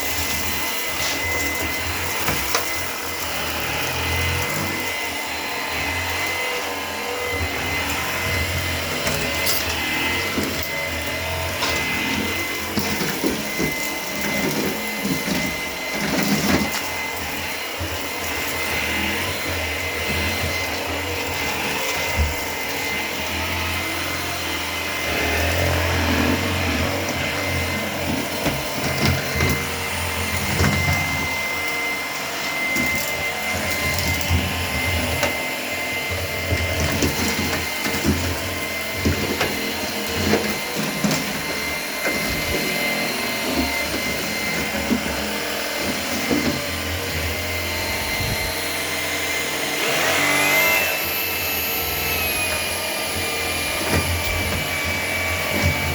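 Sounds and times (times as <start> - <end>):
vacuum cleaner motor whine: 0.0 - 55.9
vacuum knocks and clicks on rug: 0.0 - 55.9.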